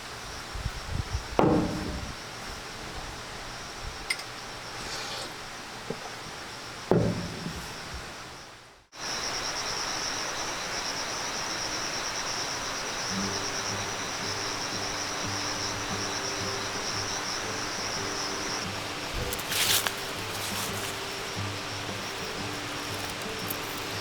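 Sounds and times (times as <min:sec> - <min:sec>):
insect chorus drone: 0:00.0 - 0:24.0.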